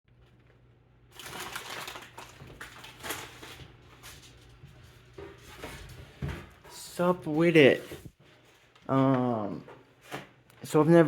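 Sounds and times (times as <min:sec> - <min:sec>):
rustling and scraping handling noise: 0:01.2 - 0:10.4.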